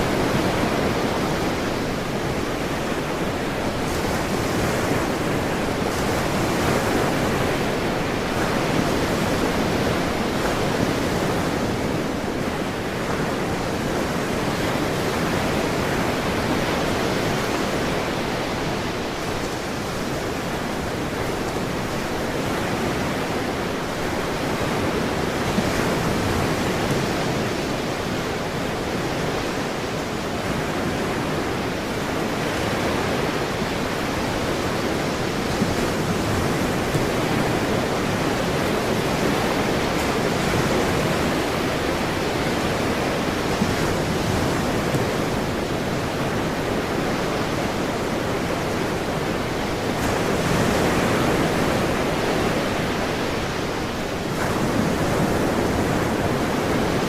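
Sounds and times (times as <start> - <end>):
ocean surf washing: 0.0 - 57.0.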